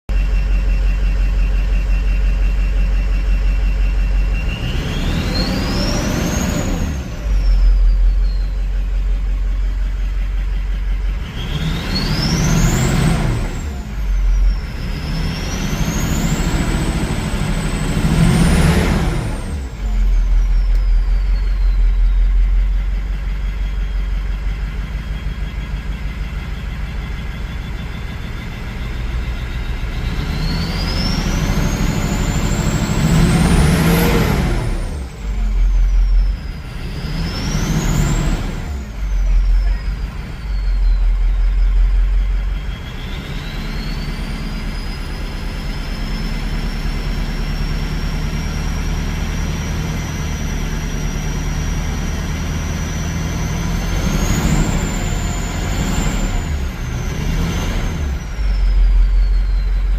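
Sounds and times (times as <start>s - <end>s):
diesel engine idling and revving: 0.0s - 59.9s
turbocharger whistle: 0.1s - 59.9s.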